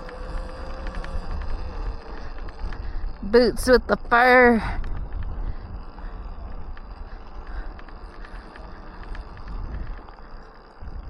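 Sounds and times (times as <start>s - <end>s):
bike rattles and clicks: 0.0s - 11.0s
low rumble: 0.0s - 11.0s
wind buffeting microphone: 0.0s - 11.0s.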